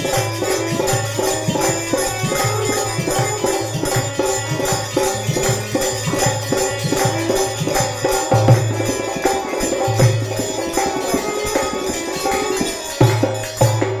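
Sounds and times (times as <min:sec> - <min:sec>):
held melodic notes: 0:00.0 - 0:14.0
jingling percussion: 0:00.0 - 0:14.0
rhythmic drum beat: 0:00.0 - 0:14.0.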